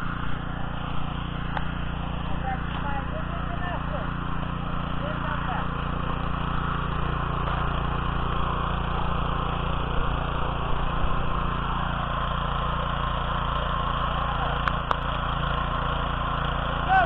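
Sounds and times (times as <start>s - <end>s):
small tiller engine running: 0.0s - 17.0s.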